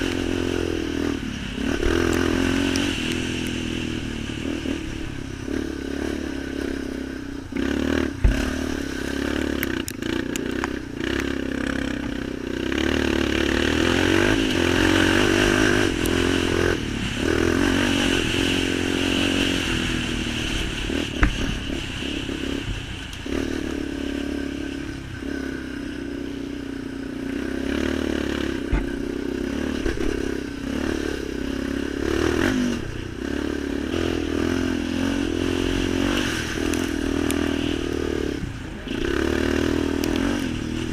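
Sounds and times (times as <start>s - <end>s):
off-road vehicle engine: 0.0s - 40.9s.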